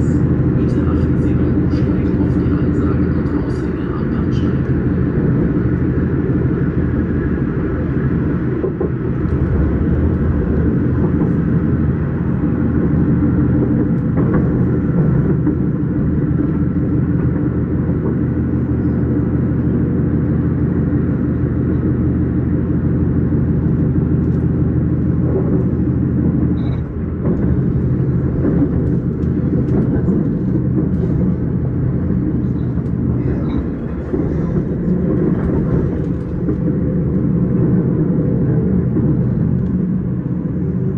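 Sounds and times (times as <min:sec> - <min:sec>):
train rumbling in motion: 0:00.0 - 0:40.9.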